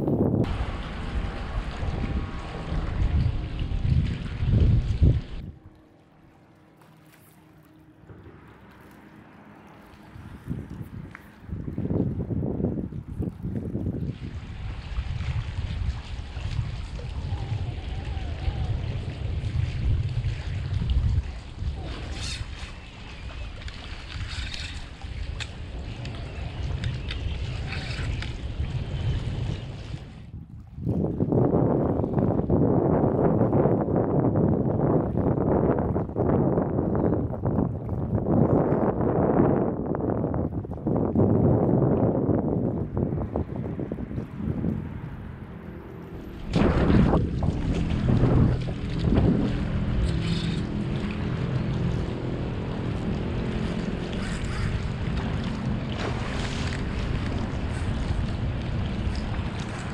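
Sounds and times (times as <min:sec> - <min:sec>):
wind buffeting microphone: 0:00.0 - 0:05.8, 0:09.8 - 0:59.9
low motor drone: 0:00.0 - 0:30.4, 0:36.8 - 0:59.9
waves lapping on rocky shore: 0:00.4 - 0:31.4, 0:41.6 - 0:59.9.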